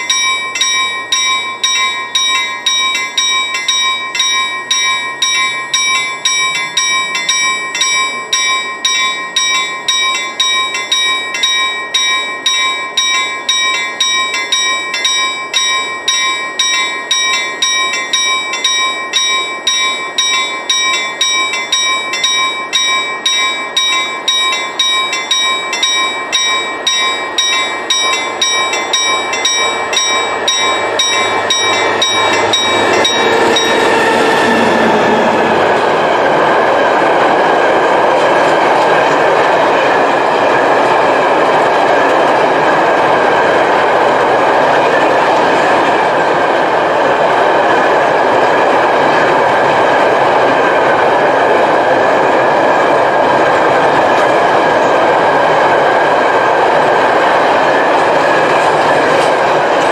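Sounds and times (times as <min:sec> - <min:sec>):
approaching train: 0:00.0 - 0:59.9
level crossing warning bell: 0:00.0 - 0:59.9.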